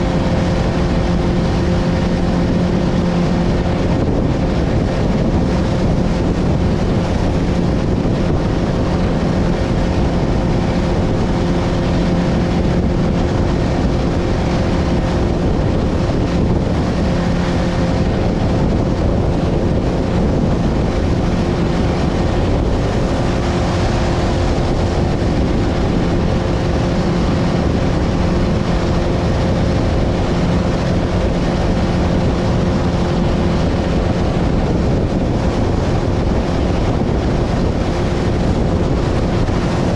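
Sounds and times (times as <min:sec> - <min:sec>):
boat motor running: 0:00.0 - 0:39.9
wind buffeting microphone: 0:00.0 - 0:39.9.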